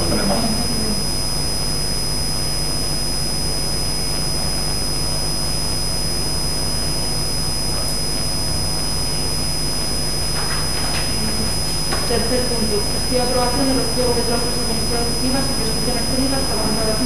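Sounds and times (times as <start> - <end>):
electrical hum and hiss: 0.0 - 17.0
low mains buzz: 0.0 - 17.0
thin high whine: 0.0 - 17.0.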